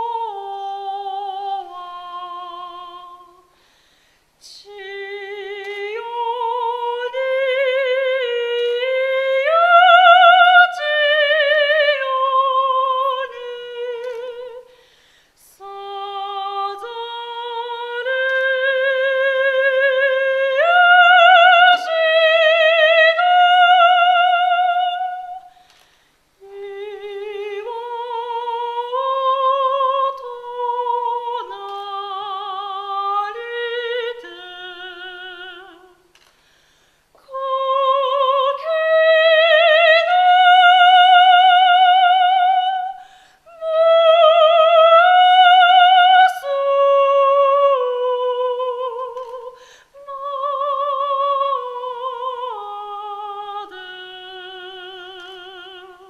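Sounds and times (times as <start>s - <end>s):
woman singing unaccompanied: 0.0s - 3.6s, 4.4s - 14.8s, 15.4s - 25.6s, 26.4s - 36.2s, 37.2s - 56.0s.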